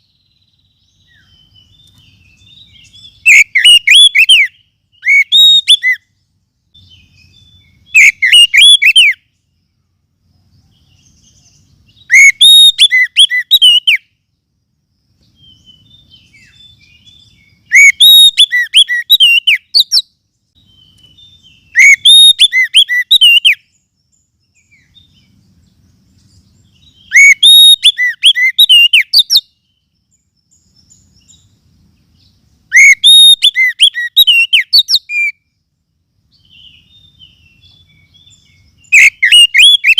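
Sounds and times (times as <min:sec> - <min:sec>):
bird whistled song: 0:00.0 - 0:09.6, 0:10.4 - 0:14.3, 0:15.2 - 0:35.6, 0:36.3 - 0:39.9.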